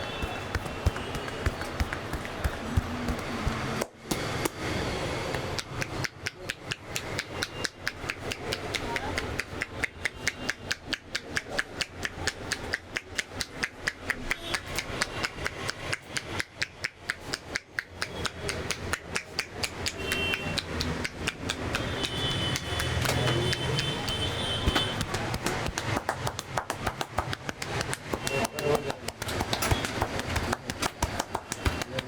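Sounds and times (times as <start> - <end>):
hands slapping a head: 0.0 - 4.7, 5.3 - 32.0.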